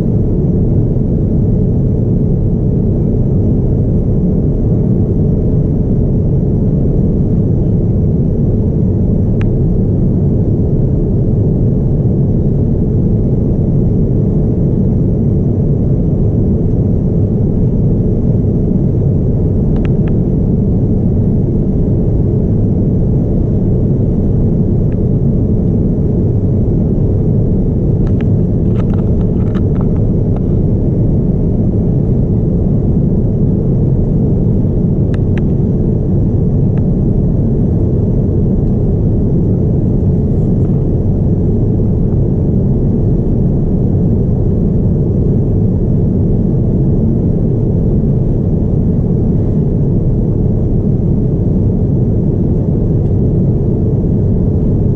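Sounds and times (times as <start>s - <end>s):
airliner cabin engine roar: 0.0s - 54.9s
faint steady hum: 0.0s - 54.9s.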